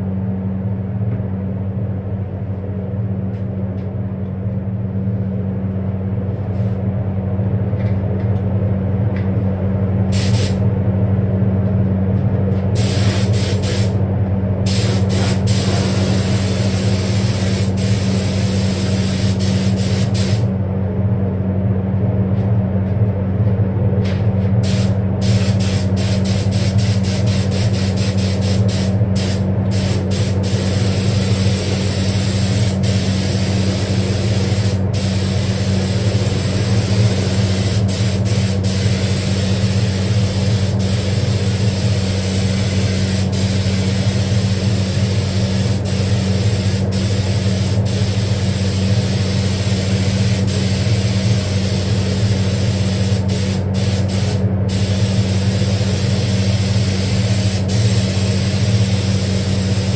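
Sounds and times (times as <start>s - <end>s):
extractor fan hum and hiss: 0.0s - 59.9s.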